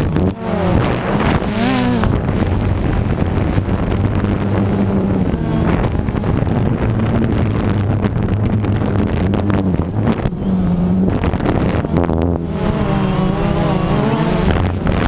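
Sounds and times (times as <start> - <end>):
drone propellers buzzing: 0.0 - 15.0
wind noise on microphone: 0.0 - 15.0.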